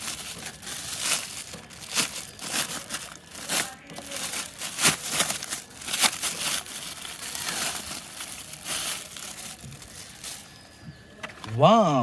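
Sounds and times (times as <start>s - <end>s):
packaging crinkling and rustling: 0.0s - 11.4s.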